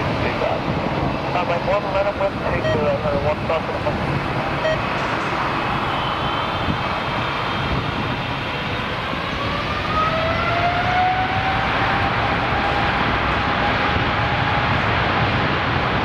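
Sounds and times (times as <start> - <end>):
jet engines running: 0.0 - 16.0
rising engine whine: 0.0 - 16.0.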